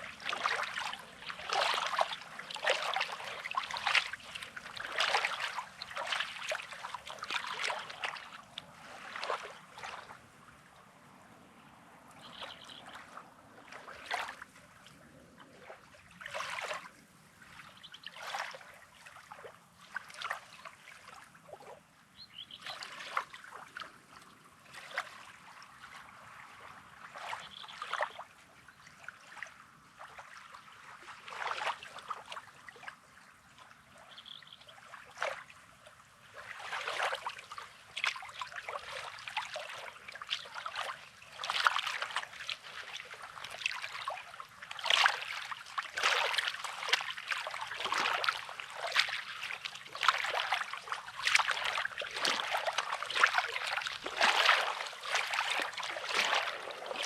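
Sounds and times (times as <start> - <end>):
small waves lapping on shore: 0.0 - 57.0.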